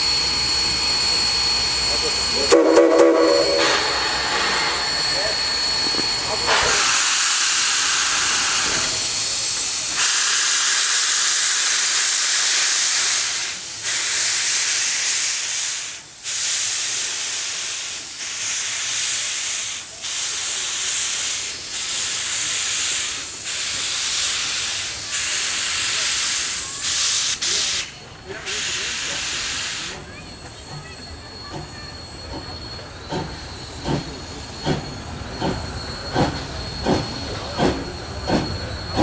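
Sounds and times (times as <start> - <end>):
steam locomotive hissing and puffing: 0.0 - 39.0.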